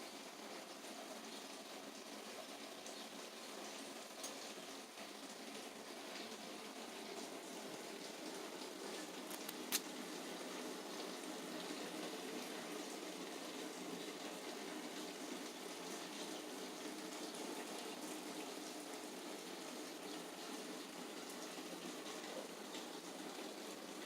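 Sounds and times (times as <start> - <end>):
steady rain patter: 0.0 - 24.0.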